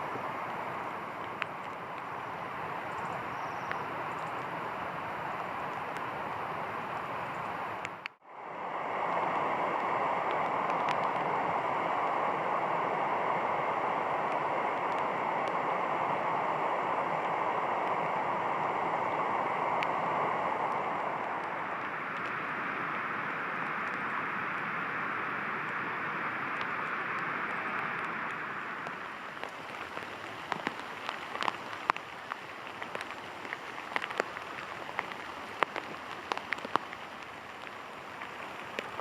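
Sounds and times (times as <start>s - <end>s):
rushing stream: 0.0s - 39.0s.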